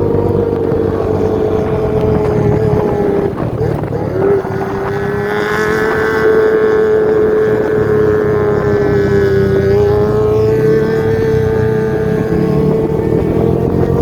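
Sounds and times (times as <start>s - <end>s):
motorcycle engine exhaust note: 0.0s - 14.0s.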